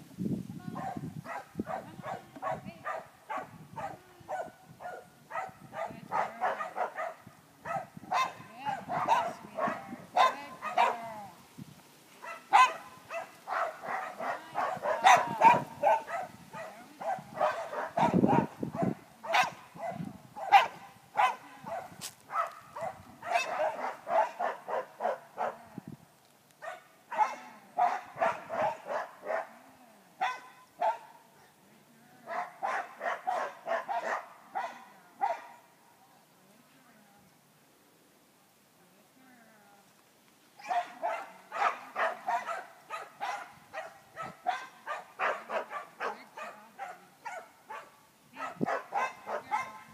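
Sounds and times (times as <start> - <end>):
dog barking: 0.8 - 11.0, 12.2 - 25.6, 26.6 - 29.6, 30.2 - 31.2, 32.3 - 35.6, 40.6 - 49.9.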